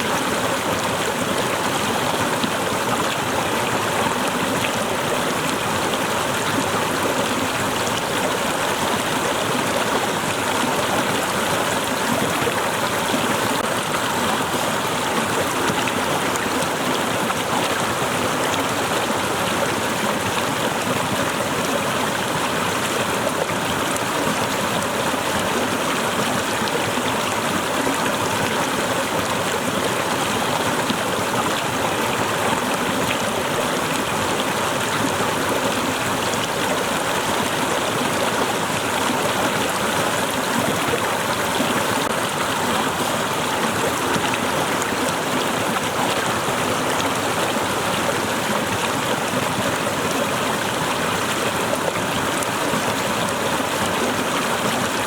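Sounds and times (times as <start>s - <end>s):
water cascading over rocks: 0.0s - 55.0s.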